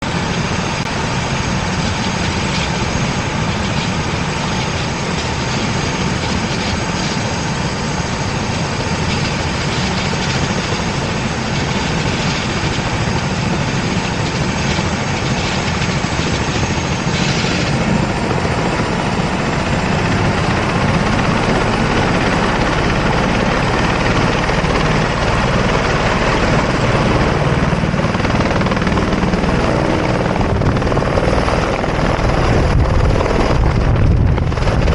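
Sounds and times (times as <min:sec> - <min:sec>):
helicopter engine and rotor: 0:00.0 - 0:34.9.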